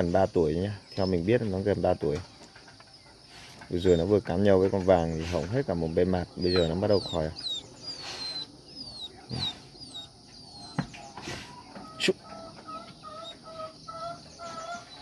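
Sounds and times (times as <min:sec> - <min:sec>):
chickens clucking: 0:00.0 - 0:15.0
chicks peeping: 0:00.0 - 0:15.0.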